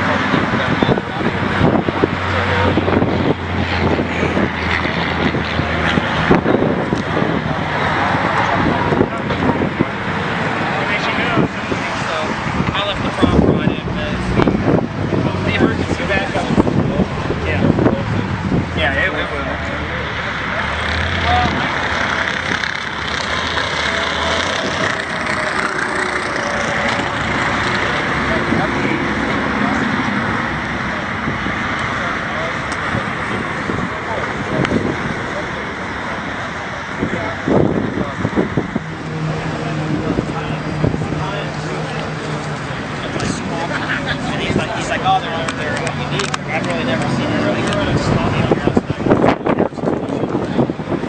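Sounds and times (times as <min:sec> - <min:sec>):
wind buffeting microphone: 0:00.0 - 0:20.2, 0:20.9 - 0:51.0
car engines running: 0:00.0 - 0:51.0
outdoor noise: 0:00.0 - 0:51.0.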